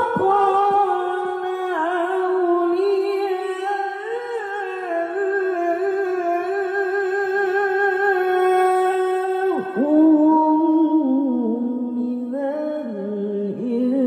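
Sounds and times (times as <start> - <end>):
man reciting in melodic chant: 0.0 - 14.0.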